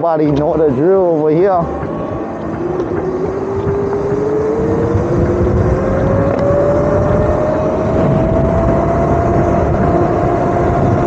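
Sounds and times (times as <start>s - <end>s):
wind rush on microphone: 0.0s - 11.0s
electric motor whine rising: 1.6s - 11.0s.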